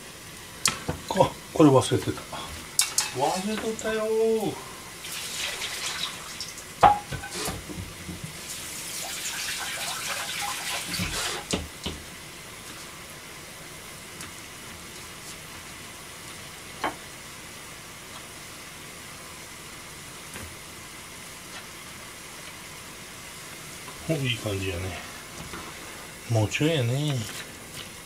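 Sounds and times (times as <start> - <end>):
low background hiss: 0.0 - 8.6, 11.7 - 28.0.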